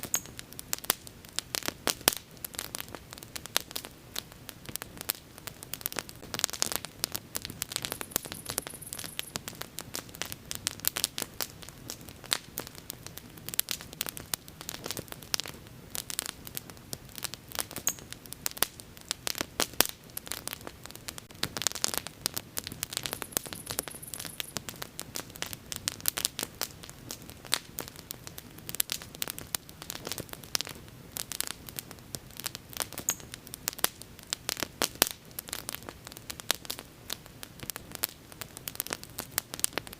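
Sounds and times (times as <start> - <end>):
bonfire crackling and popping: 0.0 - 39.9
low rumble of flame: 0.3 - 39.9.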